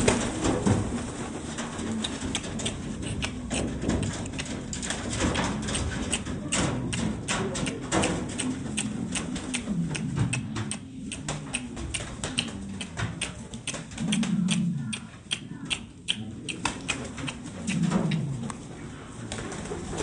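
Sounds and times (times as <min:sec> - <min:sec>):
pigeons cooing: 0:00.0 - 0:20.0
rapid sharp taps and clicks: 0:01.6 - 0:18.2.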